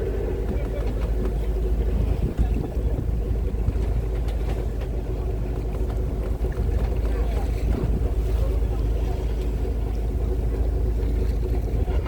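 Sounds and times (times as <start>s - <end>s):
diesel boat engine droning: 0.0s - 12.0s.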